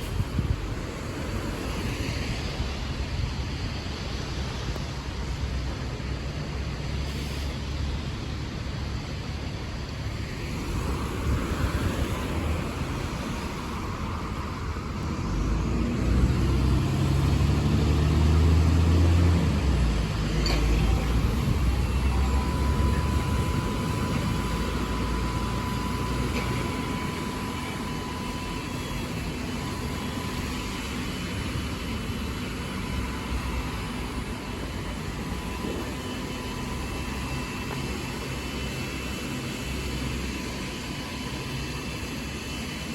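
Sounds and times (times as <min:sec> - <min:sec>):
bus engine running: 0:00.0 - 0:42.9
road traffic noise: 0:00.0 - 0:42.9.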